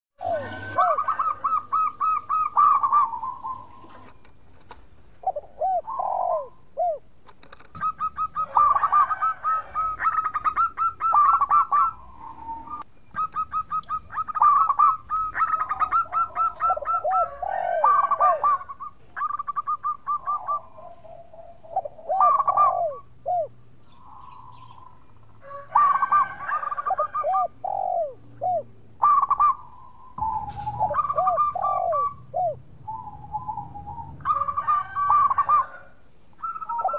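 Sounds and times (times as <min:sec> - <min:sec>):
dove cooing: 0:00.2 - 0:04.2, 0:05.2 - 0:36.9.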